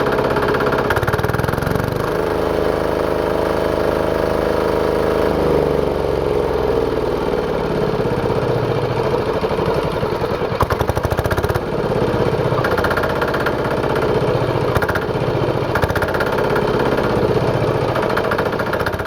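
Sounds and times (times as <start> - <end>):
diesel engine rhythmic firing: 0.0 - 19.0.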